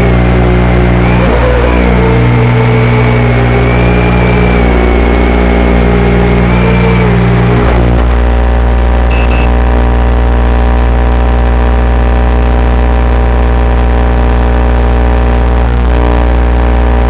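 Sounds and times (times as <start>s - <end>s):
loud electrical buzz-hum: 0.0s - 17.0s.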